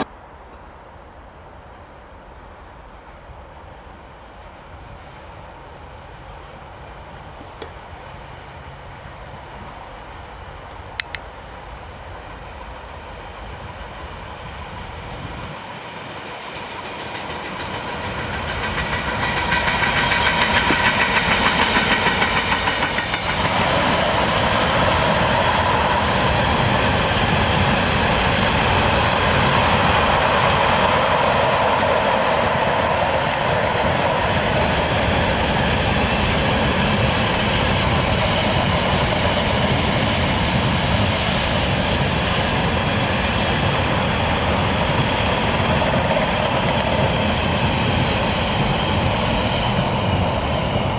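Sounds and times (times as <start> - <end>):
train passing: 0.0 - 50.9
wheels clacking on rails: 4.5 - 50.9.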